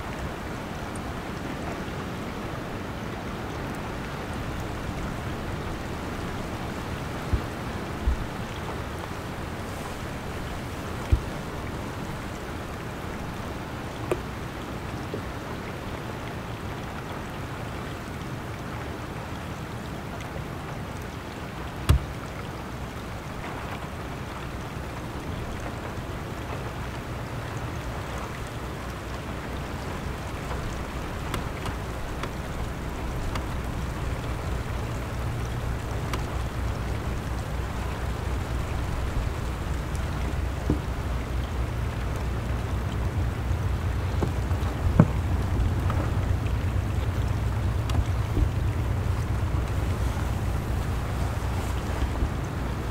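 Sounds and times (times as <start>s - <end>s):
steady noisy hiss: 0.0s - 52.9s.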